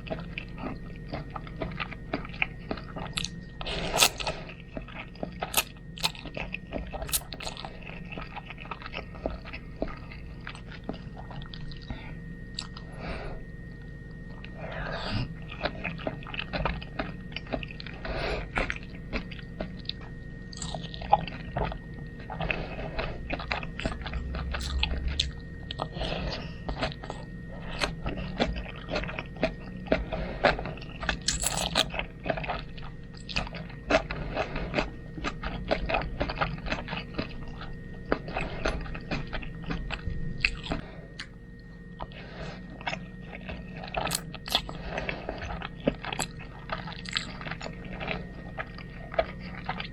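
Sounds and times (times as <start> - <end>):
chewing with wet mouth clicks: 0.0 - 12.9, 14.3 - 49.9
faint electrical whine: 0.0 - 49.9.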